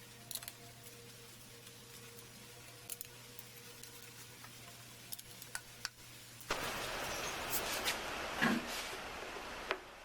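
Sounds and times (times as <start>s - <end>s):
steady hum with light hiss: 0.0s - 10.0s.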